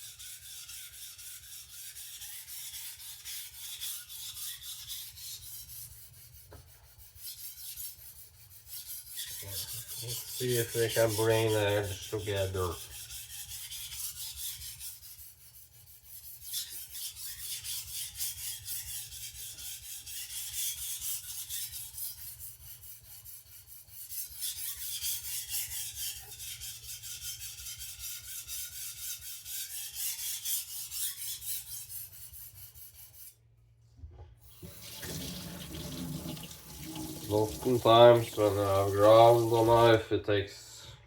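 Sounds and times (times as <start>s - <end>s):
knife scraping on whetstone: 0.0s - 33.4s, 34.4s - 40.0s.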